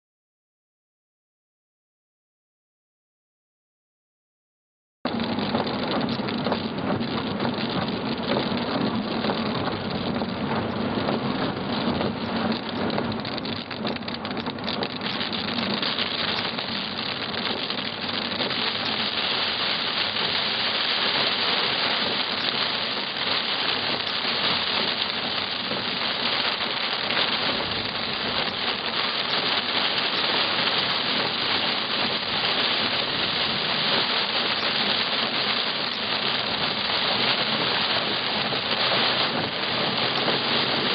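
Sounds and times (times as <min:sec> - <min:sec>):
heavy rain on car windscreen: 0:05.1 - 0:40.9.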